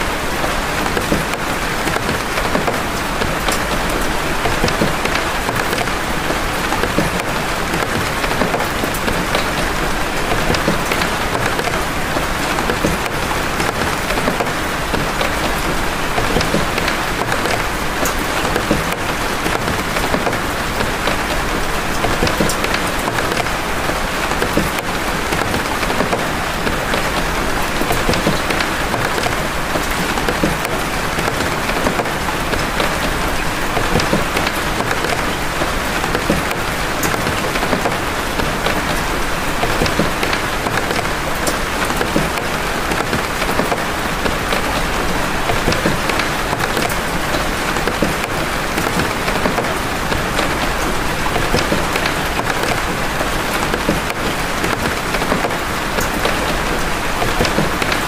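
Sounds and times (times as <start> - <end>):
heavy rain hiss: 0.0 - 58.0.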